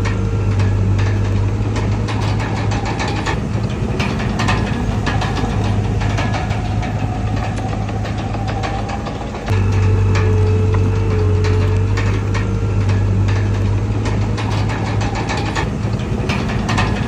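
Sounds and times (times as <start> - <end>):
bulldozer diesel engine running: 0.0 - 17.0
metallic clicks and clanks: 0.0 - 17.0.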